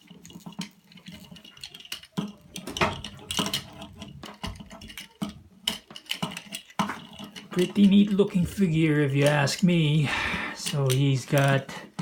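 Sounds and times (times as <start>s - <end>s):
plastic parts clicking and tapping: 0.0s - 12.0s.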